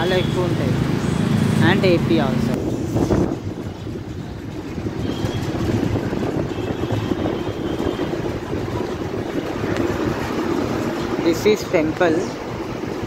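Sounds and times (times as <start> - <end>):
bus engine and road rumble: 0.0 - 13.0
traffic noise: 0.0 - 13.0.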